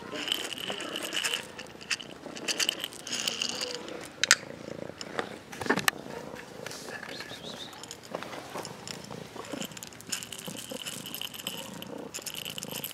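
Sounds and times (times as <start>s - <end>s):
plastic rustling: 0.0s - 6.0s, 6.7s - 12.9s
cat crunching kibble: 0.0s - 12.9s.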